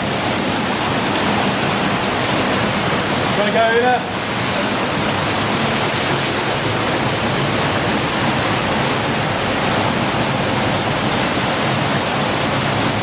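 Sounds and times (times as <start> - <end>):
cave stream rushing: 0.0 - 13.0.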